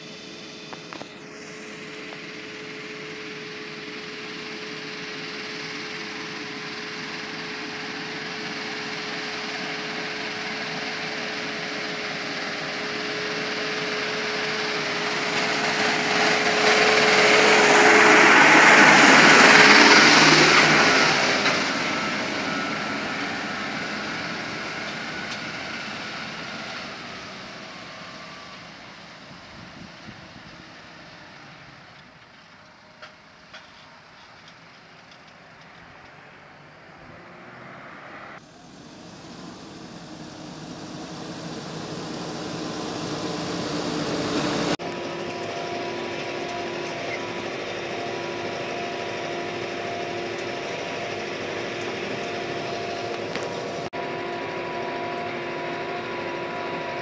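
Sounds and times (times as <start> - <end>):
tractor diesel engine passing: 0.0 - 57.0.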